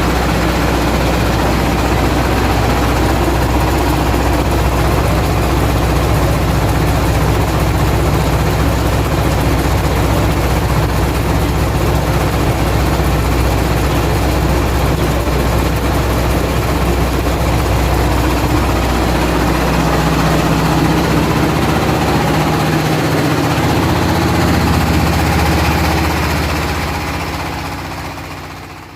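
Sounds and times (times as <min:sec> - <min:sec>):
machine droning: 0:00.0 - 0:28.9.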